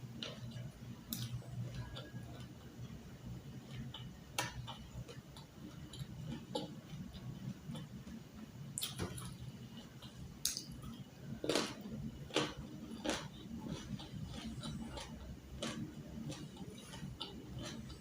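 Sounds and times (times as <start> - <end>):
person chewing crisp food: 0.2 - 8.0, 8.8 - 18.0.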